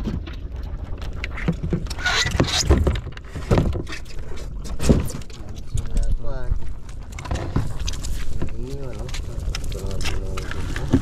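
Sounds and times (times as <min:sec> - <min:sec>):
gear and basins clattering: 0:00.0 - 0:11.0.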